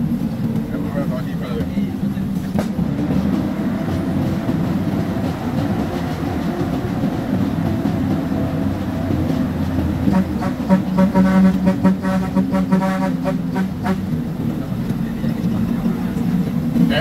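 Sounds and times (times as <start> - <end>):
truck cab rattling: 0.0 - 17.0
truck engine running: 0.0 - 17.0.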